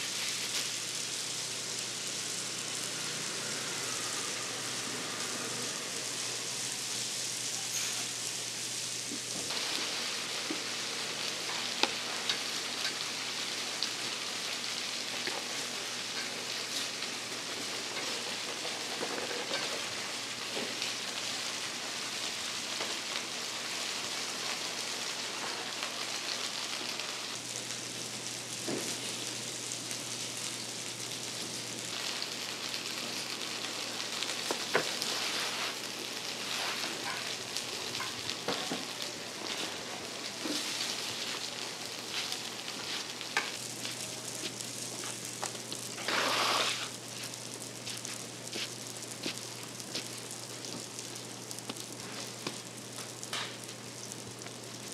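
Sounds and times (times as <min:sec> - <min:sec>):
oil sizzling: 0:00.0 - 0:54.9.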